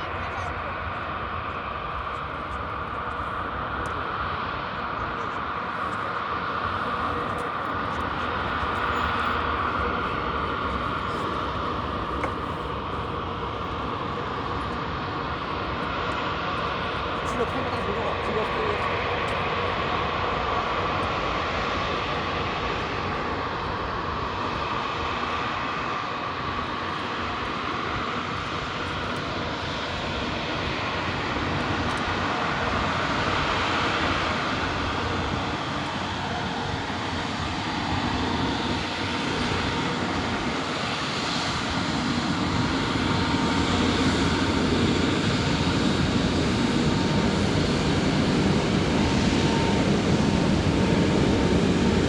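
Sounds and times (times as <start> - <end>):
jet engines running: 0.0 - 52.0.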